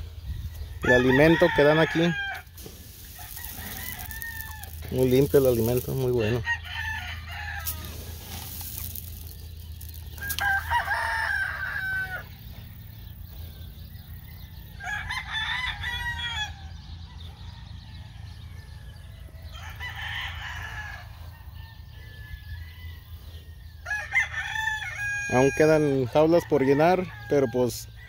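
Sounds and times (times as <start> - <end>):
roosters crowing: 0.0 - 28.0.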